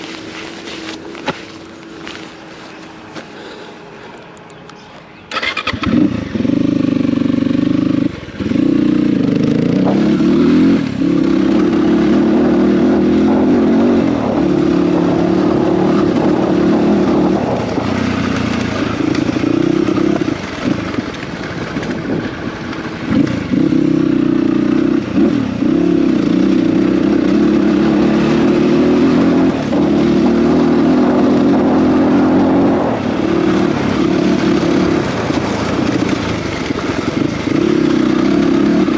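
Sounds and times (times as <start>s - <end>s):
dirt bike engine revving: 5.3s - 38.9s.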